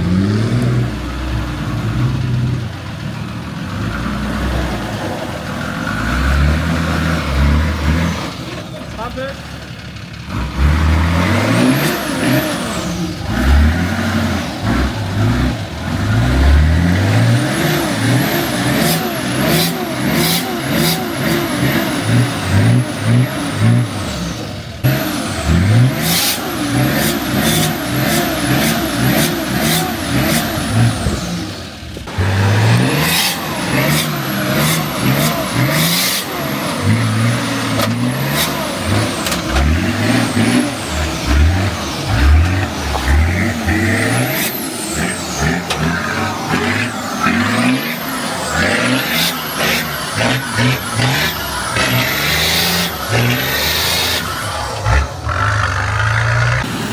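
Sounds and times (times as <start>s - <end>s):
off-road vehicle engine revving: 0.0s - 56.9s.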